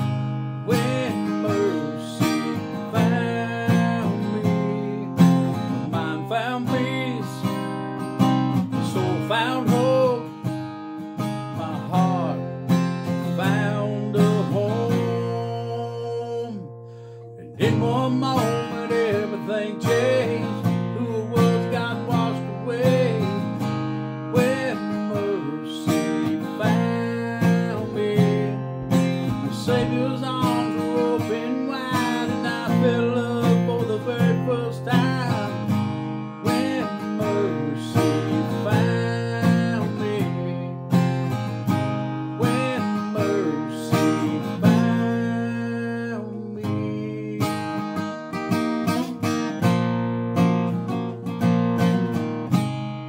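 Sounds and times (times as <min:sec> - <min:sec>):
man singing: 0:00.0 - 0:49.6
acoustic guitar strummed: 0:00.0 - 0:53.0.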